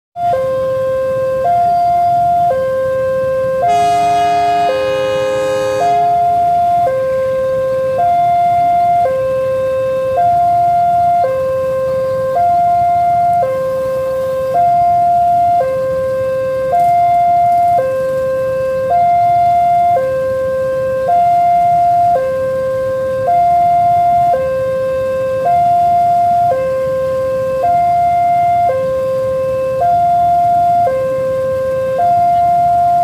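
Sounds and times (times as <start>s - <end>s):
two-tone crossing alarm: 0.2s - 33.0s.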